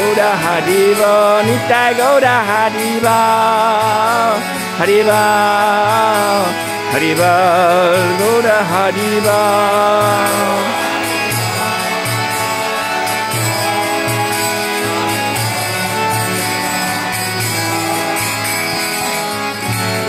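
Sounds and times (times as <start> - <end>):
harmonium playing sustained chords: 0.0 - 20.0.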